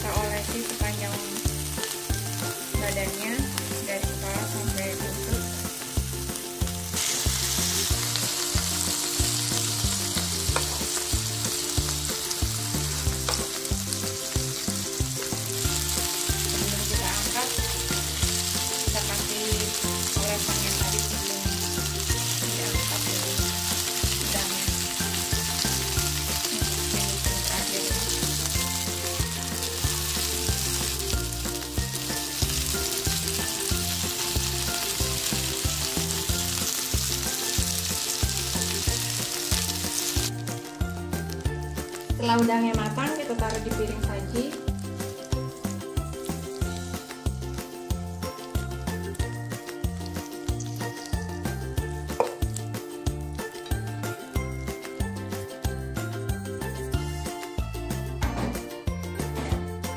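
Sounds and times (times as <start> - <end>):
prawns sizzling in a pan: 0.0 - 58.2.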